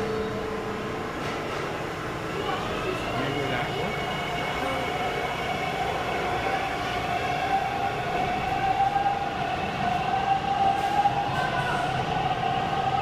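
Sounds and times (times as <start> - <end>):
train cars rumbling: 0.0 - 13.0.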